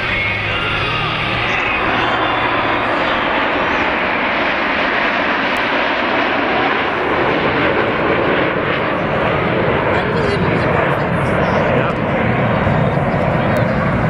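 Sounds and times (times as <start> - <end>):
jet aircraft roaring overhead: 0.0 - 14.0.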